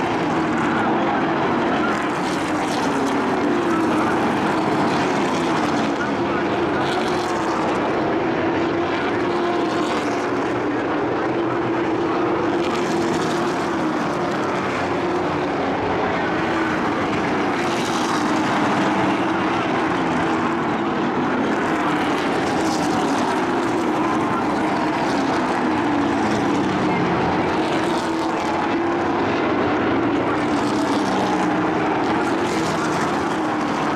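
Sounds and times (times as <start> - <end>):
race truck engines droning: 0.0 - 33.9.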